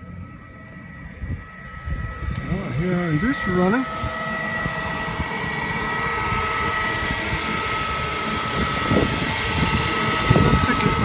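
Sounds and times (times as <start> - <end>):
motor hum with high whine: 0.0 - 11.0.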